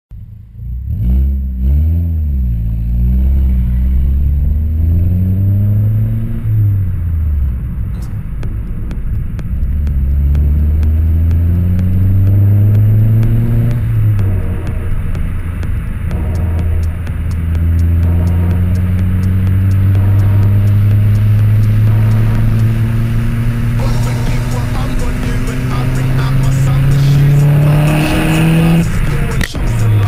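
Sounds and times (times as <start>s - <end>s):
car exhaust revving: 0.1s - 30.0s.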